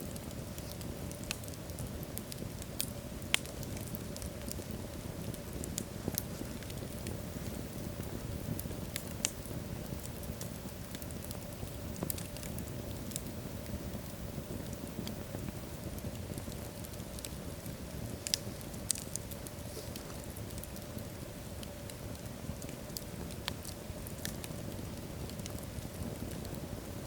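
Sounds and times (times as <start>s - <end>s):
logs crackling and popping: 0.0s - 27.0s
low rumble of flames: 0.0s - 27.0s.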